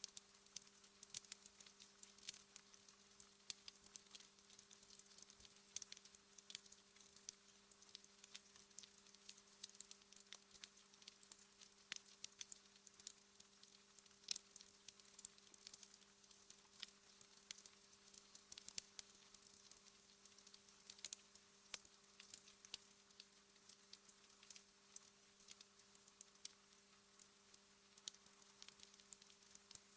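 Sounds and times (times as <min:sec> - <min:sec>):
wood fire crackling: 0:00.1 - 0:29.9.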